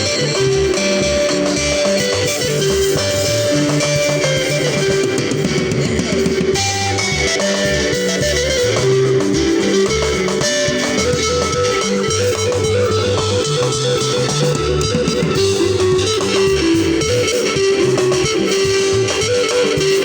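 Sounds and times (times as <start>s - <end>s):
bass guitar: 0.0s - 20.0s
drums: 0.0s - 20.0s
electric guitar melody: 0.0s - 20.0s.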